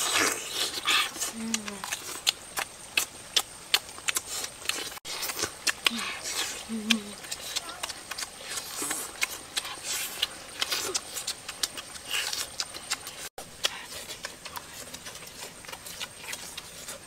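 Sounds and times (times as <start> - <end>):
wet chewing and lip-smacking: 0.0 - 17.0
teeth clicking on food: 0.1 - 17.0.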